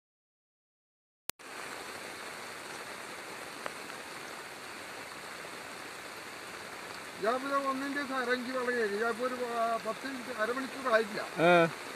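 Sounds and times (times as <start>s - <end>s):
heavy rain hissing: 1.4s - 11.9s.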